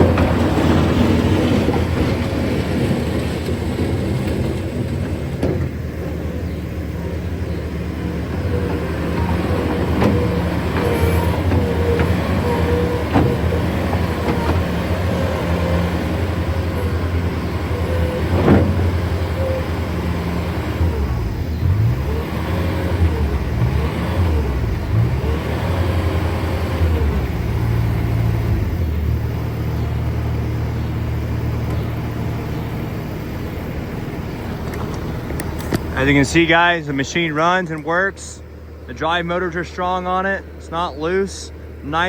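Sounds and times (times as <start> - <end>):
diesel engine running under load: 0.0 - 42.0.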